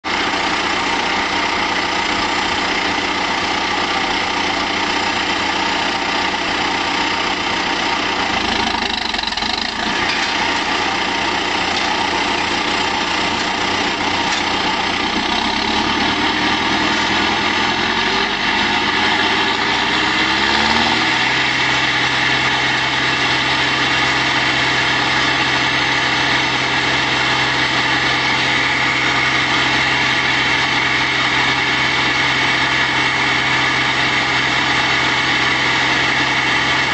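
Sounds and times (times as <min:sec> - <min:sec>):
tractor engine running: 0:00.0 - 0:36.9
wood chipper: 0:00.0 - 0:36.9.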